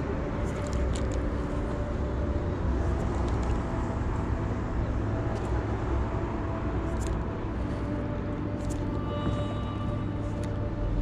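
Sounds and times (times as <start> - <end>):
faint steady drone: 0.0 - 11.0
low rumble of road traffic: 0.0 - 11.0.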